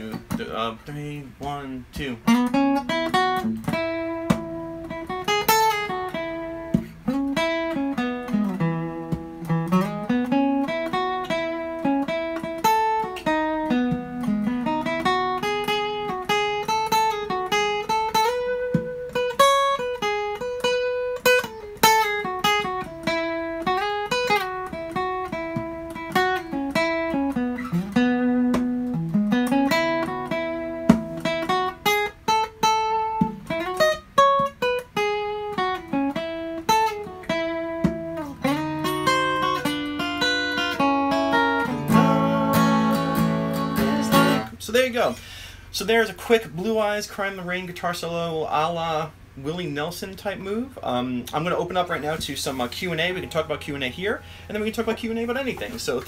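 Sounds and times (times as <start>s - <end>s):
acoustic guitar solo: 0.0s - 56.0s.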